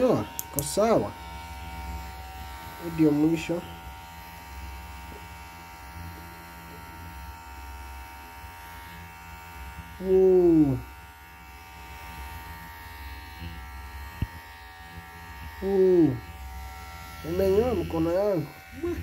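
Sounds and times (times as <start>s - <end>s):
hair clipper buzzing: 0.0s - 19.0s.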